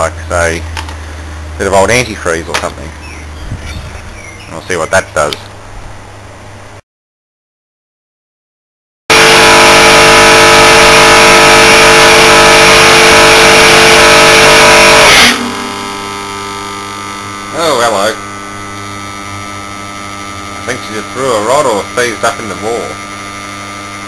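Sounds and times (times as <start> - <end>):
compressor harsh running noise: 0.0 - 6.8, 9.1 - 24.0
stalled motor electrical hum: 0.0 - 6.8, 9.1 - 24.0.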